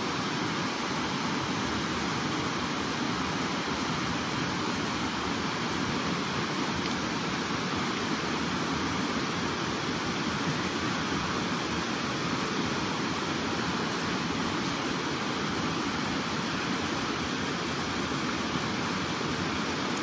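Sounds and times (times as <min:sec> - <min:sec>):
river rushing over rapids: 0:00.0 - 0:20.0.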